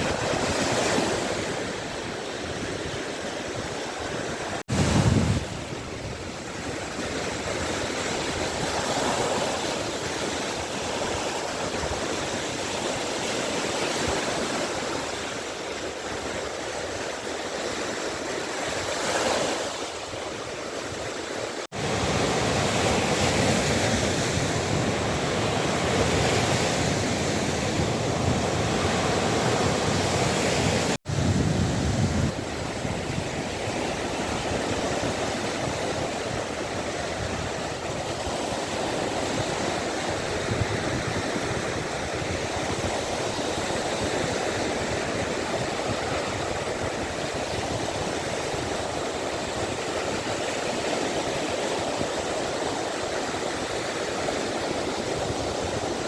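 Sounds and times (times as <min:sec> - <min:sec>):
waves washing onto shore: 0:00.0 - 0:56.0.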